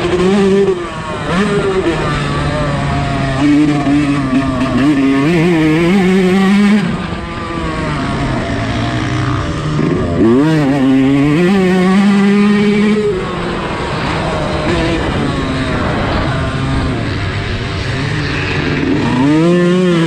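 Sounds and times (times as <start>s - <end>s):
motocross engine revving: 0.0s - 20.0s.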